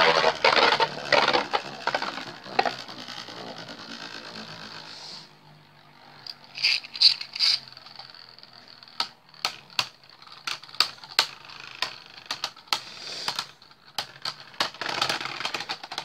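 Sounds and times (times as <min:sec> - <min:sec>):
faint whir of spinning tops: 0:00.0 - 0:16.0.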